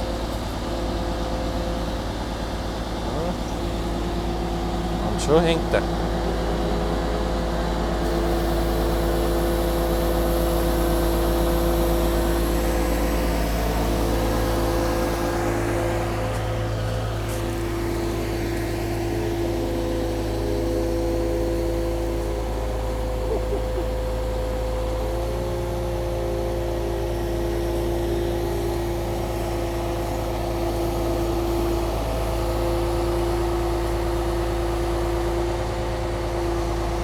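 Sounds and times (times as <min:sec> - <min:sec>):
crane engine running: 0:00.0 - 0:37.0.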